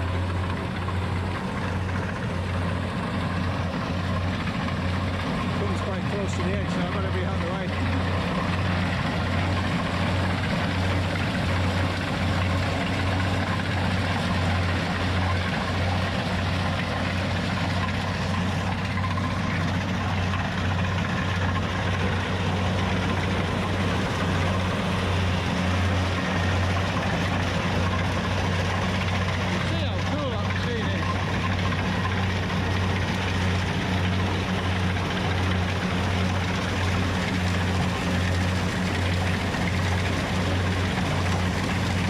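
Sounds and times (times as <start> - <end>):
combine harvester engine humming: 0.0 - 42.0.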